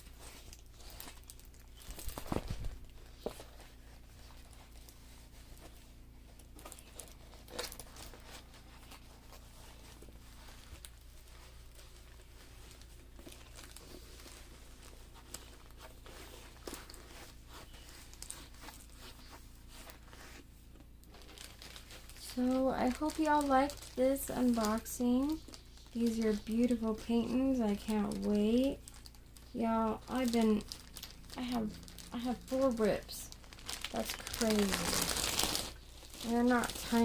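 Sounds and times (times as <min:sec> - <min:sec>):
plastic sheet crinkling: 0:00.0 - 0:37.0.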